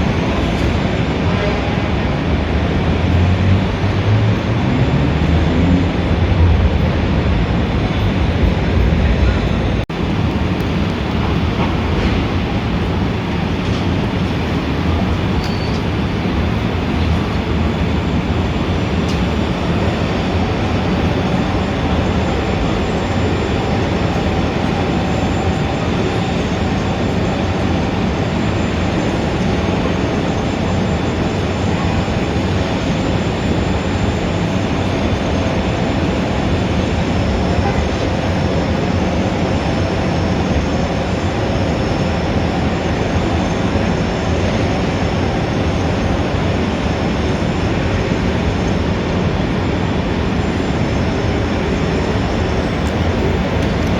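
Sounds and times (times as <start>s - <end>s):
city traffic rumble: 0.0s - 53.9s.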